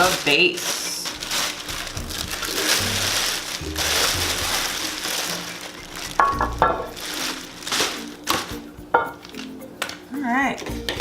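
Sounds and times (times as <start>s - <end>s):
packaging crackling and rustling: 0.0s - 10.0s.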